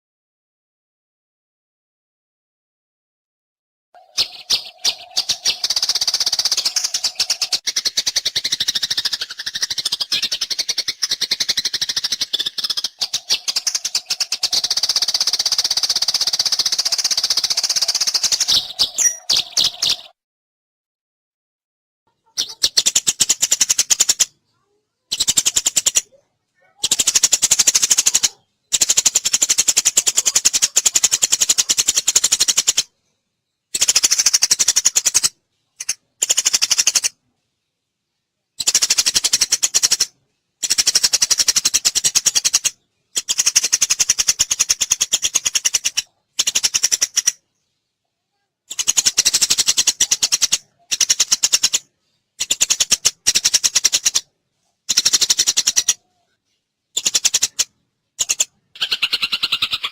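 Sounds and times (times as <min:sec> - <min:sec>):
sparrow chirping: 0:04.0 - 0:20.2, 0:22.1 - 0:37.7, 0:38.5 - 0:59.9.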